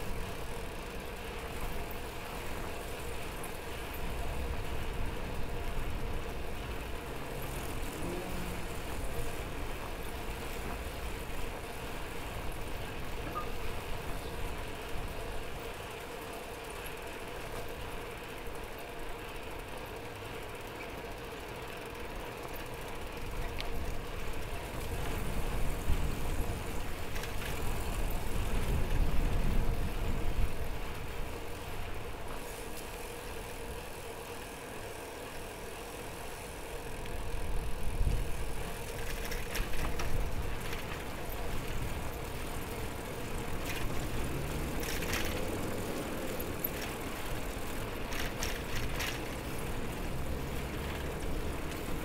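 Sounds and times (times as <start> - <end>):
bicycle road noise hum: 0.0 - 52.0.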